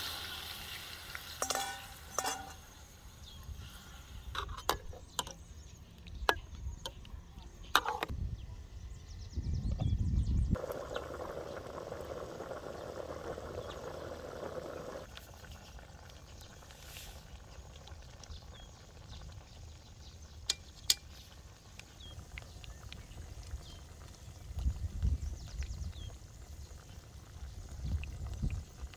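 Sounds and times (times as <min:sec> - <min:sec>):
meat sizzling and bubbling: 0:00.0 - 0:08.0, 0:10.5 - 0:28.9.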